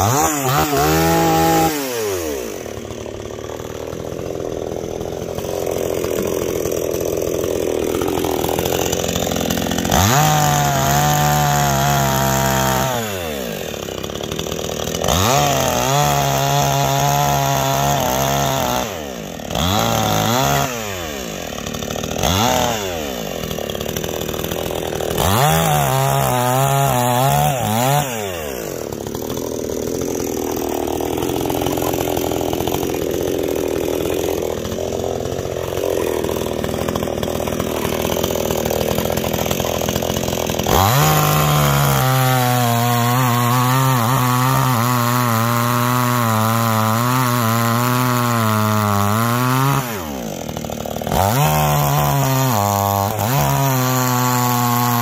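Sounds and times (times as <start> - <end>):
chainsaw revving and cutting wood: 0.0 - 55.0.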